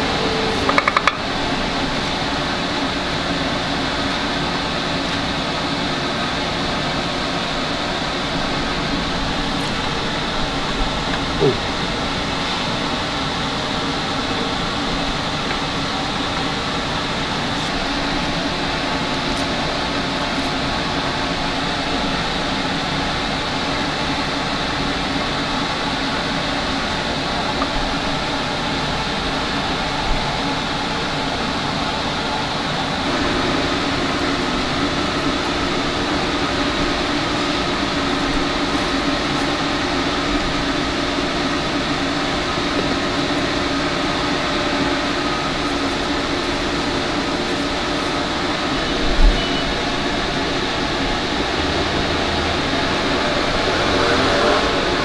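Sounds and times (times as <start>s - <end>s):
ventilation fan whirring: 0.0s - 55.0s.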